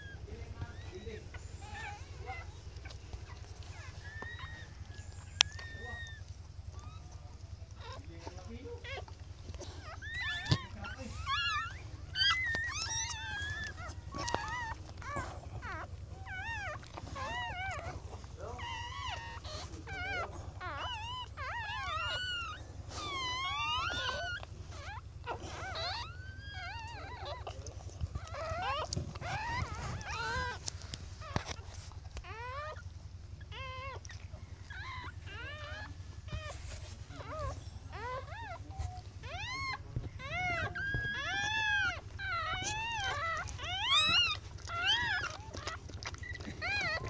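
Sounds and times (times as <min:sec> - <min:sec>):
puppies whimpering and squeaking: 0:00.0 - 0:47.0.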